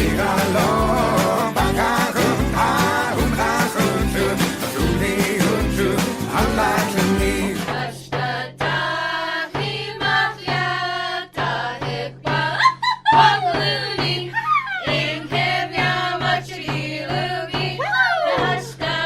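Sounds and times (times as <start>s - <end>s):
voices singing: 0.0s - 19.0s.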